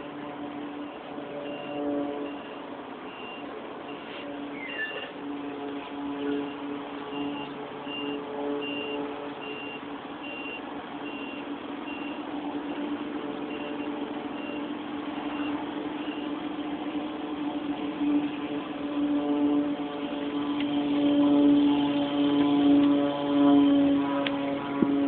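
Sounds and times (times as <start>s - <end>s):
engine humming: 0.0s - 25.0s
vehicle reversing alarm beeping: 0.0s - 25.0s.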